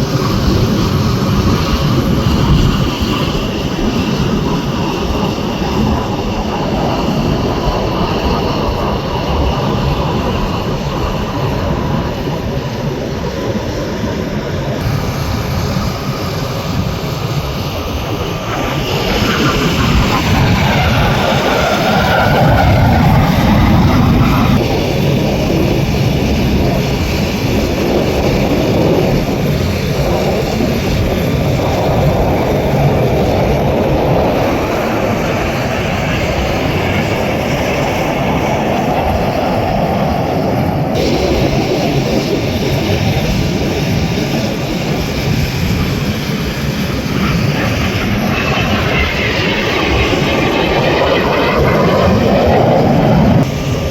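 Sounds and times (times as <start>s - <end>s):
jet engines rumbling in flight: 0.0s - 53.9s.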